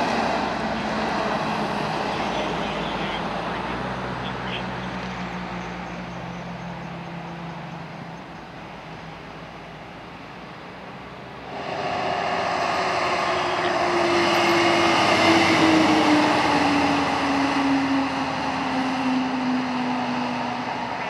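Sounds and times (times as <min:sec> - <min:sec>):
vehicle engine passing: 0:00.0 - 0:21.0.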